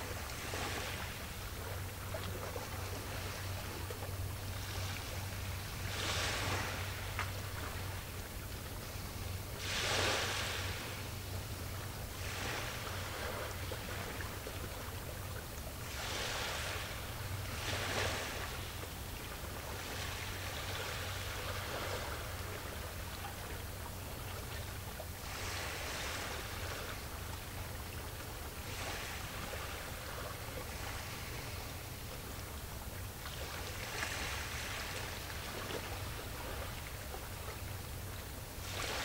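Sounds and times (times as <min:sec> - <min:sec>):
small waves washing in: 0:00.0 - 0:39.0.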